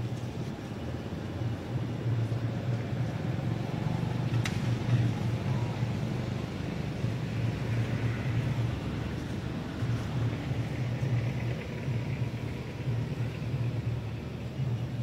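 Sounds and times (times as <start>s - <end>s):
low engine-like hum: 0.0s - 15.0s
outdoor background noise: 0.0s - 15.0s.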